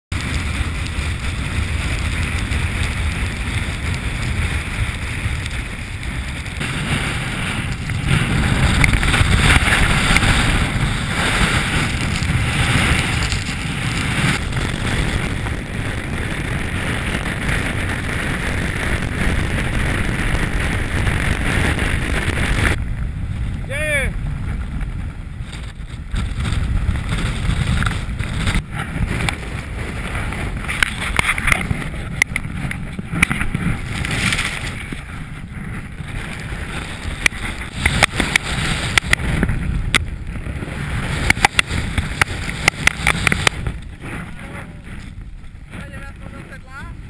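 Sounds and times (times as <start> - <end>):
wind buffeting microphone: 0.1 - 47.0.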